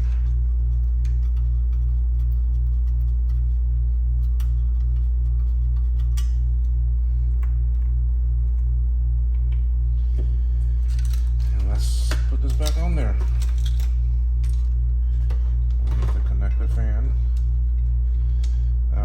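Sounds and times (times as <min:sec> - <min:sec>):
low electrical hum with throb: 0:00.0 - 0:19.0.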